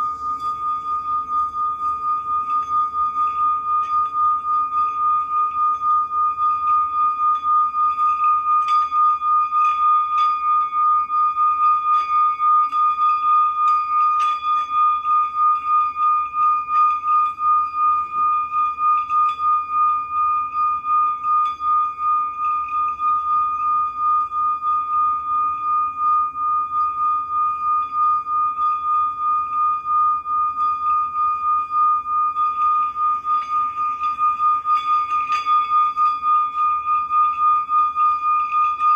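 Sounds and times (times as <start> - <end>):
singing bowl wavering tone: 0.0 - 38.9.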